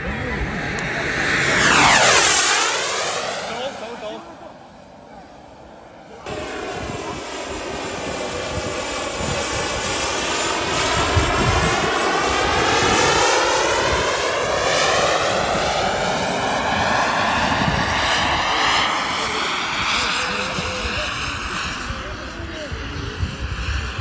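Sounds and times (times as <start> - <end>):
model jet engine whine: 0.0 - 24.0.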